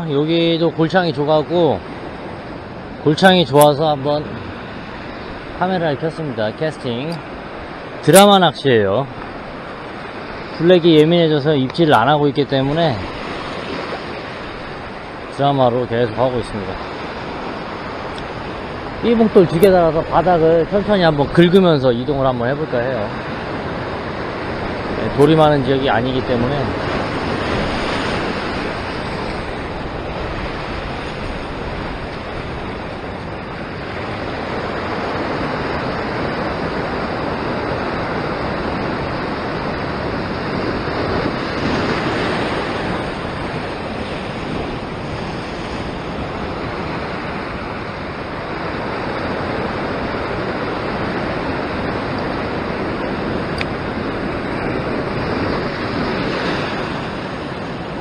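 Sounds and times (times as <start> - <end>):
sea waves washing over rocks: 0.0 - 58.0.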